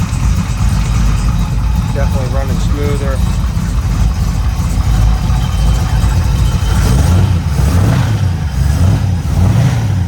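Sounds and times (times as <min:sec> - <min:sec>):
car engine running evenly: 0:00.0 - 0:10.0.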